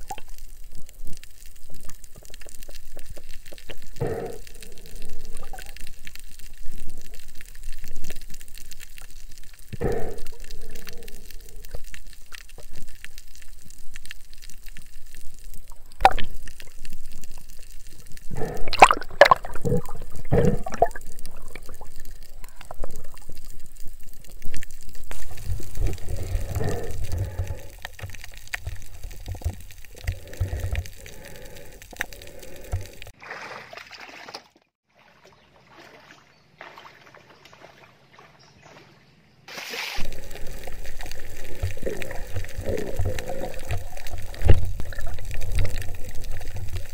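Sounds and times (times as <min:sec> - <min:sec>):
underwater sloshing and bubbling: 0:00.0 - 0:33.2, 0:40.0 - 0:46.9.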